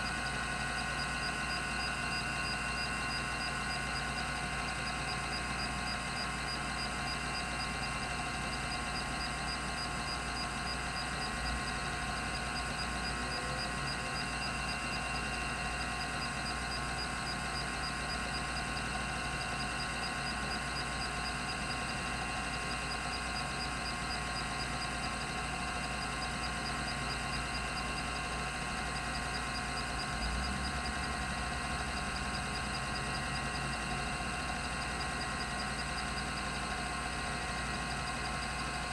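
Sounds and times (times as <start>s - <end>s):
hard drive spinning with whine: 0.0s - 38.9s.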